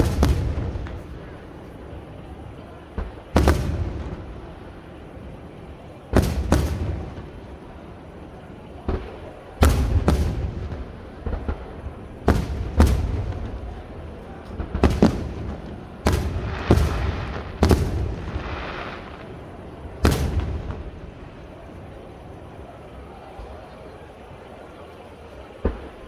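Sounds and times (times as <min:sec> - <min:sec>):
fireworks shells bursting: 0:00.0 - 0:22.3.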